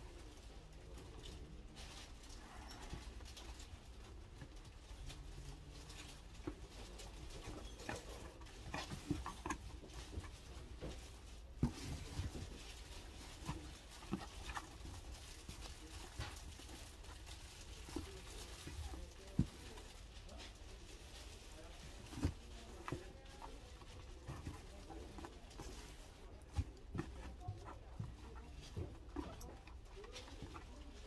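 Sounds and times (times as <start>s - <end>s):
rustling flower stems: 0.0s - 31.0s.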